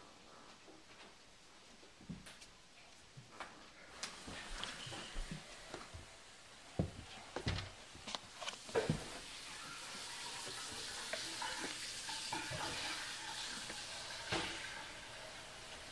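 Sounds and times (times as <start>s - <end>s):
close-up rustling: 0.0s - 14.7s.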